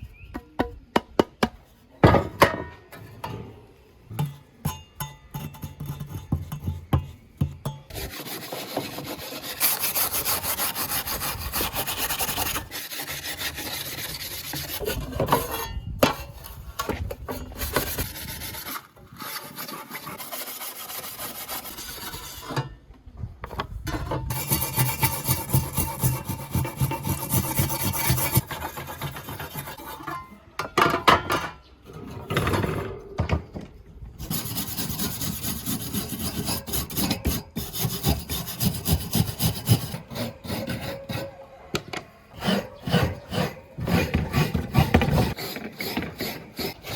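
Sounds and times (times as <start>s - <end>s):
hand scraping on metal: 3.0s - 22.8s, 23.5s - 30.4s, 34.2s - 46.9s.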